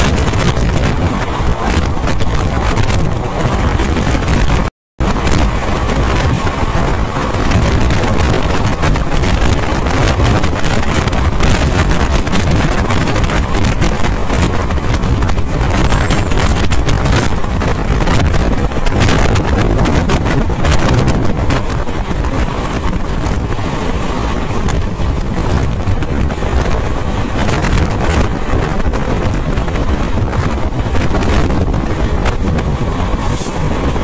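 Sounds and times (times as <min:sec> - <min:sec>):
train wheels rumbling on track: 0:00.0 - 0:34.0
wind buffeting microphone: 0:00.0 - 0:34.0.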